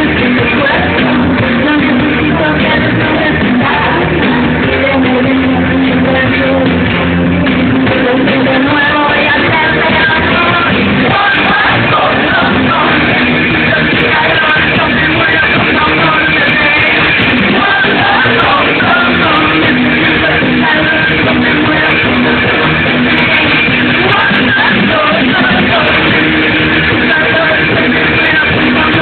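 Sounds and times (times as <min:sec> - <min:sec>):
electric guitar: 0:00.0 - 0:29.0
live rock band: 0:00.0 - 0:29.0
woman singing: 0:00.0 - 0:29.0.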